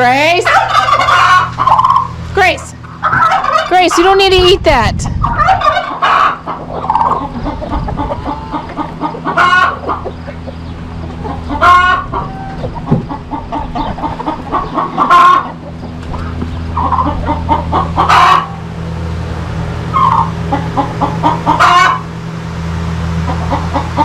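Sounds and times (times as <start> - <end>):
hens clucking: 0.0 - 22.2, 23.1 - 24.0.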